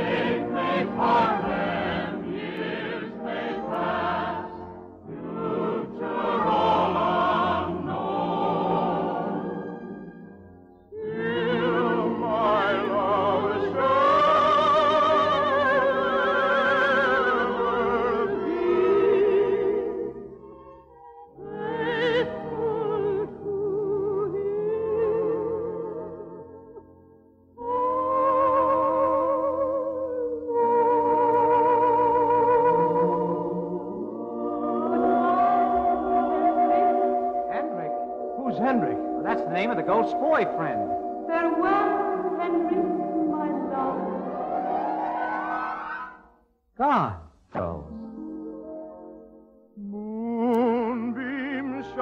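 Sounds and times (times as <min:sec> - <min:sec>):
operatic singing: 0:00.0 - 0:10.3, 0:10.9 - 0:26.4, 0:27.6 - 0:48.2, 0:49.8 - 0:52.0
orchestra: 0:00.0 - 0:52.0.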